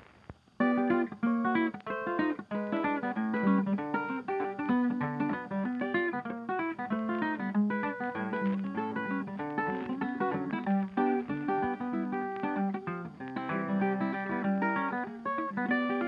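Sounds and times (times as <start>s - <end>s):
guitar playing quick plucked notes: 0.6s - 16.0s.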